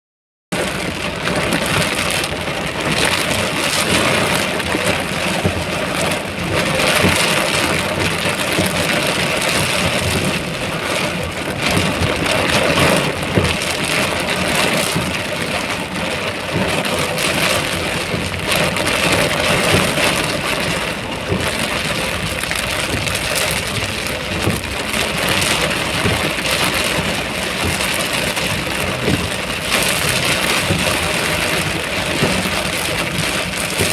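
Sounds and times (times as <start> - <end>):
heavy rain falling: 0.6 - 33.9.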